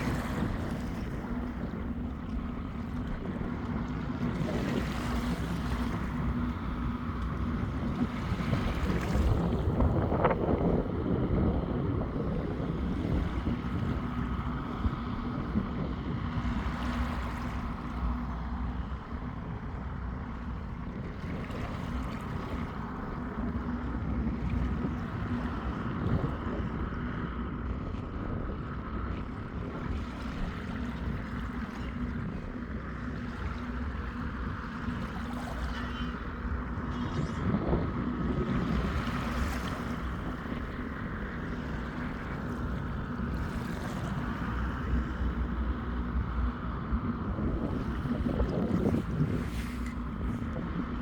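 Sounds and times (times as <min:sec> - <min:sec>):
sea waves: 0:00.0 - 0:51.0
wind buffeting microphone: 0:00.0 - 0:51.0.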